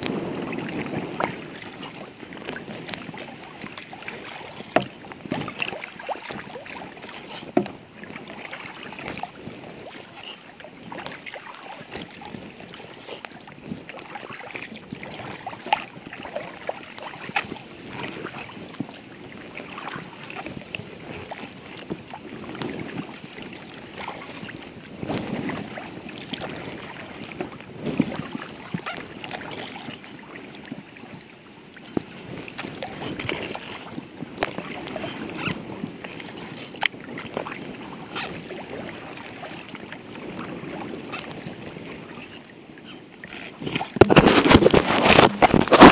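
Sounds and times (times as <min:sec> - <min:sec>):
paddle strokes swishing water: 0:00.0 - 0:45.9
water lapping at hull: 0:00.0 - 0:45.9
water splashes and drips: 0:00.0 - 0:45.9.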